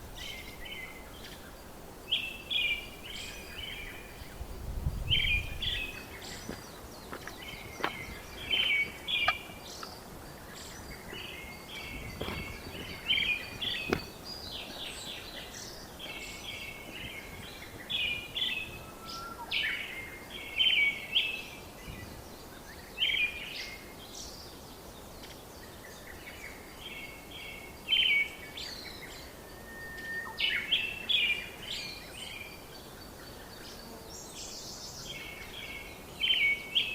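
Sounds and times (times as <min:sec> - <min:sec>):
songbirds chirping: 0:00.0 - 0:36.9
steady background hiss: 0:00.0 - 0:36.9.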